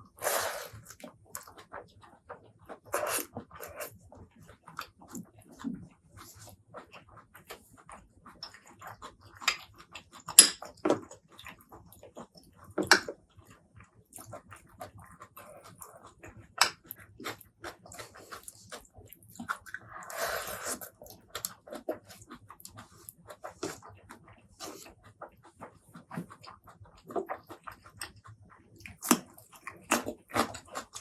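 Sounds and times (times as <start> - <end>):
wet chewing: 0.0 - 31.0.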